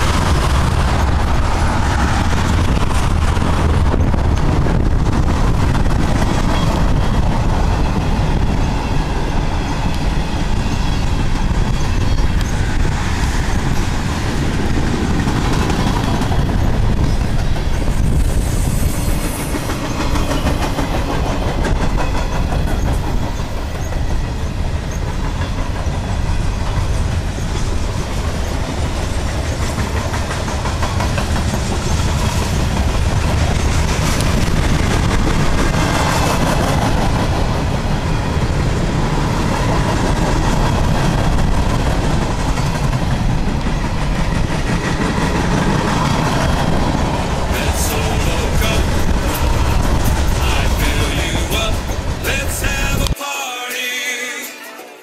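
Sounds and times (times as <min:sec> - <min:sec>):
freight train wheels rumbling: 0:00.0 - 0:53.2.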